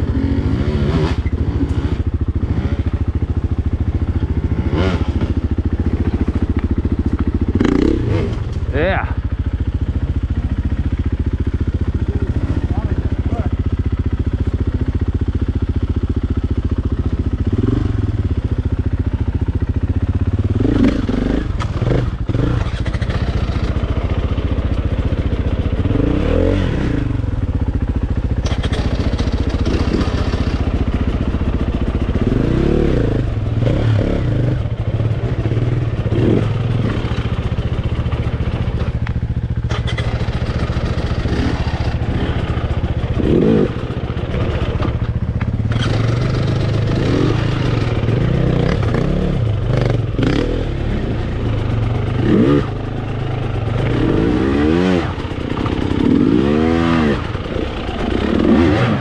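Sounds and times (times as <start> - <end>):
dirt bike engine revving: 0.0 - 14.9, 16.9 - 59.0.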